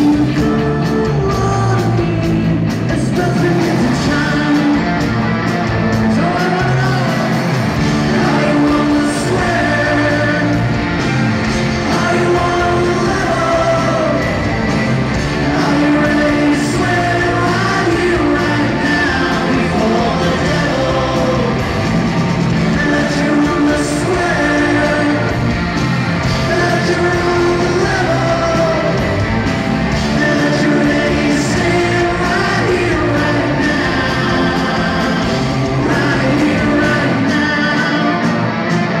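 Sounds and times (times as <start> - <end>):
person singing: 0.0 - 38.5
drums: 0.0 - 39.0
electric guitars: 0.0 - 39.0
keyboards: 0.0 - 39.0.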